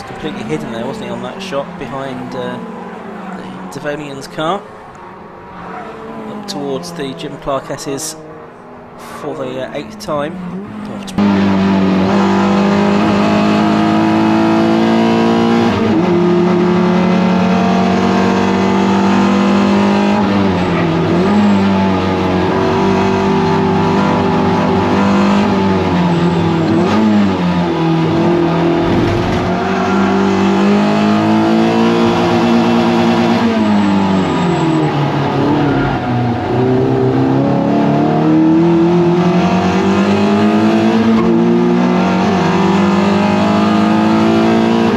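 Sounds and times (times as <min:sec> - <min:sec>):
race car engine revving: 0:00.0 - 0:44.9.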